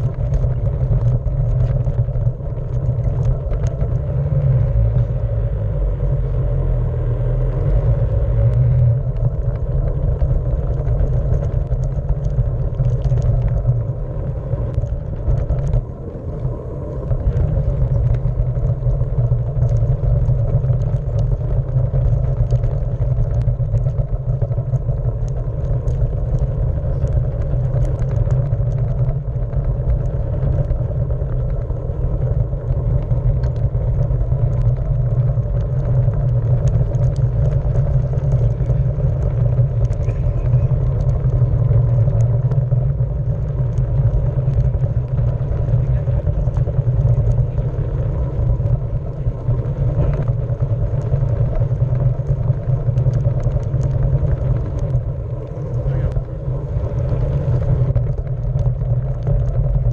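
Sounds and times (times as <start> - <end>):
tyre rolling over wooden planks: 0.0 - 59.9.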